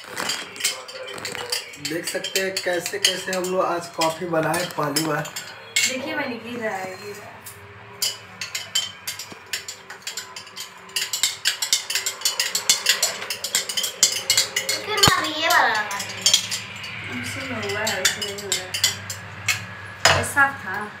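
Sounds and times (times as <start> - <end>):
spoon clinking against glass: 0.0 - 6.1, 6.8 - 20.2.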